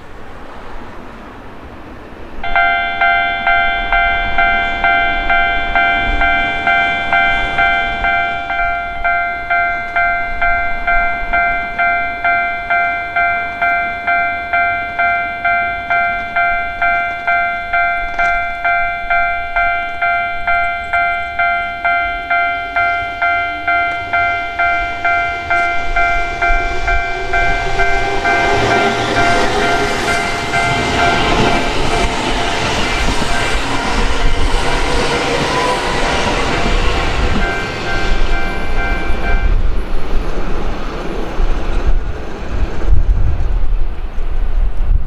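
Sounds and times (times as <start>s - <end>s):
electric train passing: 0.0s - 45.0s
level crossing bell dinging: 2.4s - 34.6s, 35.5s - 39.6s.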